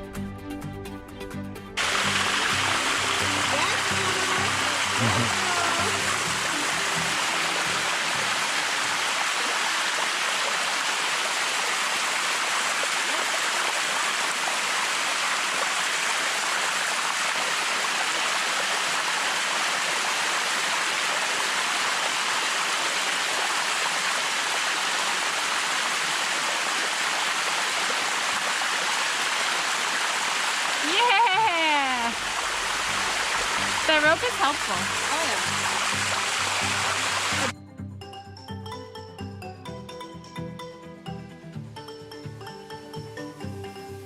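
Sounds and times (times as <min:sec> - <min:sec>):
waterfall rushing: 0:01.8 - 0:37.5.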